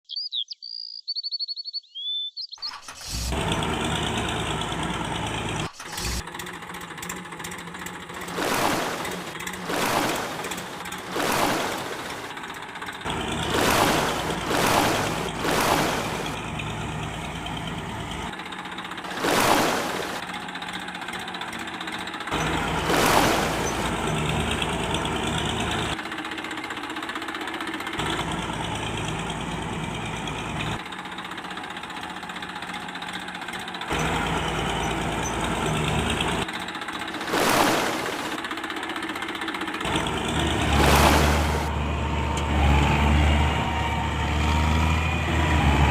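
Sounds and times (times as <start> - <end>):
engine-like low hum: 2.6 - 45.9.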